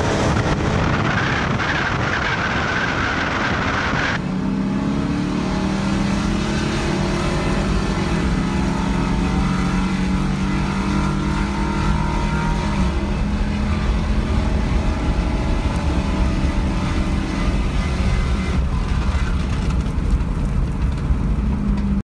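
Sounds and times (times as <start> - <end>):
car engine: 0.0 - 22.0
road noise inside car: 0.0 - 22.0.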